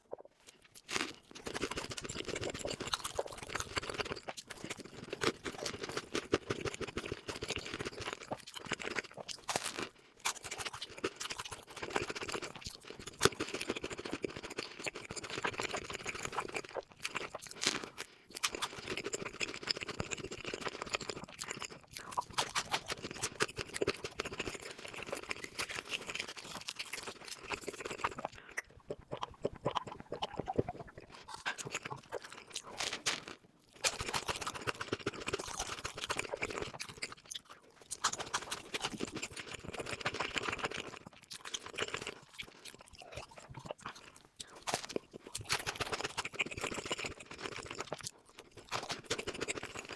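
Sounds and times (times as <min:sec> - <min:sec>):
crunchy food being chewed: 0:00.0 - 0:49.9.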